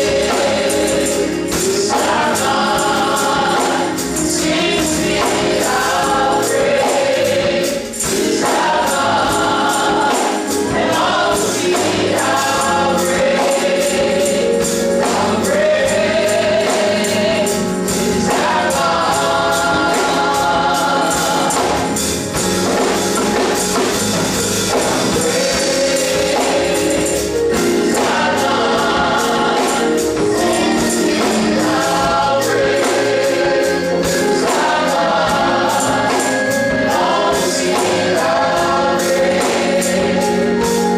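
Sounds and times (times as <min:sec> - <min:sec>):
gospel choir singing: 0:00.0 - 0:40.9
musical accompaniment: 0:00.0 - 0:40.9
tambourine beat: 0:00.0 - 0:40.9.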